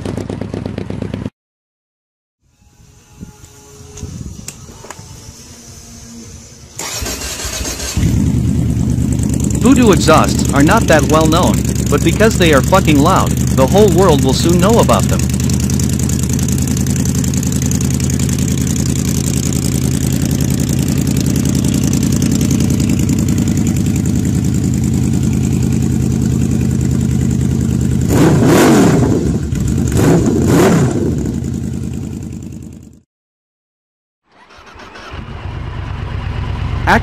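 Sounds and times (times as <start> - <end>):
motorcycle engine idling and revving: 0.0 - 1.3, 3.0 - 33.1, 34.4 - 37.0.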